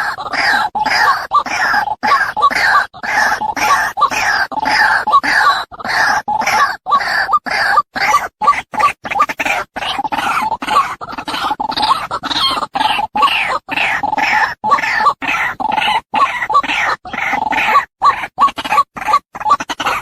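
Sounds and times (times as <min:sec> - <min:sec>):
waterhen harsh calls: 0:00.0 - 0:20.0.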